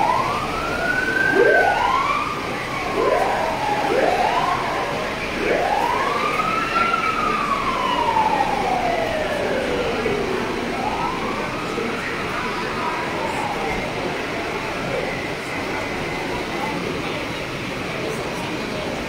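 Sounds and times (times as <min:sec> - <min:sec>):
emergency sirens wailing: 0:00.0 - 0:19.0.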